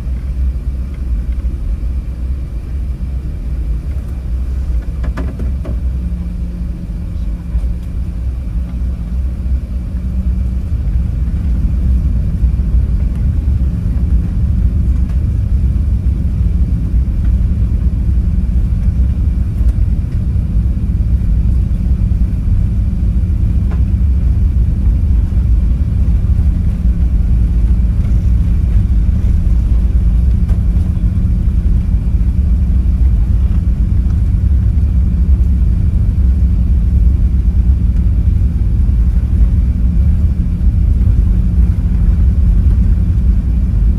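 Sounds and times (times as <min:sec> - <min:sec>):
faint steady hum: 0:00.0 - 0:43.9
low airplane cabin rumble: 0:00.0 - 0:43.9.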